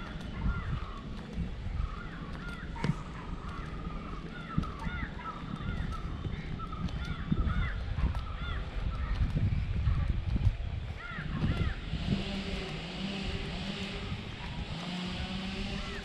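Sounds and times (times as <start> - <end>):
flock of birds calling: 0.0 - 16.0
steady low rumble: 0.0 - 16.0.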